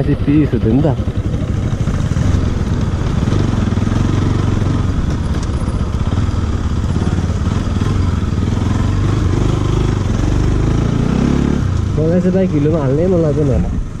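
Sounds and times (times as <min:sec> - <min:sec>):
motorcycle engine running at low revs: 0:00.0 - 0:14.0.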